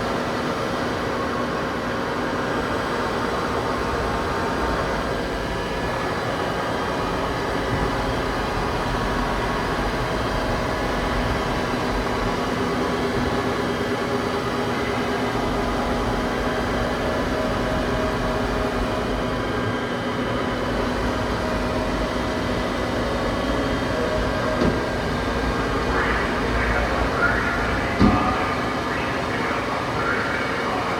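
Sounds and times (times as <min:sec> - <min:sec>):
industrial machinery humming: 0:00.0 - 0:30.9.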